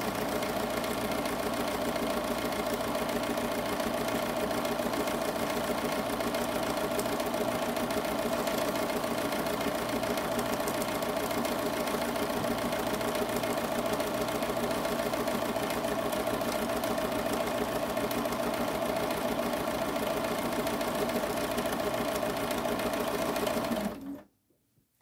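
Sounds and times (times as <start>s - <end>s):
sewing machine running: 0.0s - 24.2s.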